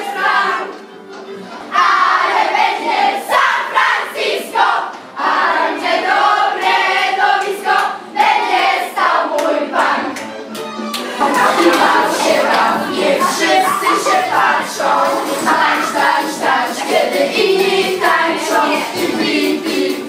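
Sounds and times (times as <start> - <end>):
girls singing and shouting: 0.0 - 0.8, 1.7 - 10.2, 11.1 - 20.0.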